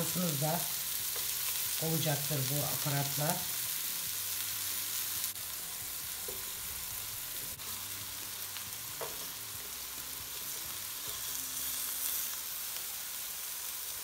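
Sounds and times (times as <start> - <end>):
meat sizzling on griddle: 0.0 - 14.0.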